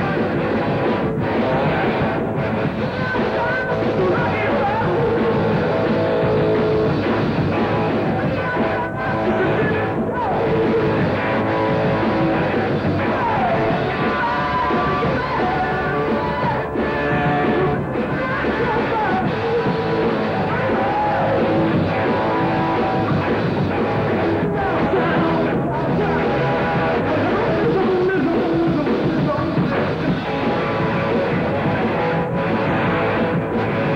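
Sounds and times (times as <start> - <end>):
electric guitar: 0.0 - 33.9
person singing: 0.0 - 33.9
rock band playing live: 0.0 - 33.9.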